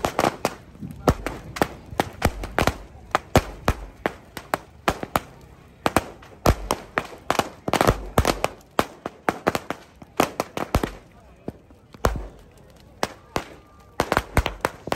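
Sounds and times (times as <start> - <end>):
firecrackers banging: 0.0 - 14.9.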